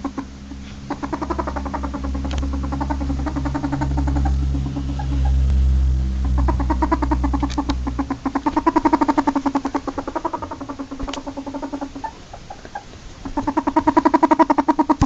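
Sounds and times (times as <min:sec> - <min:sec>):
ferret clucking: 0:00.0 - 0:15.0
low hum: 0:00.0 - 0:15.0.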